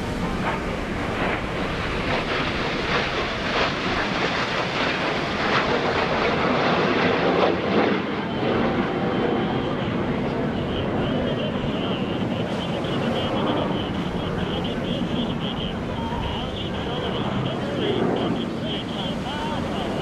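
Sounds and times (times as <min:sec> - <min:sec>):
jets passing overhead: 0:00.0 - 0:20.0.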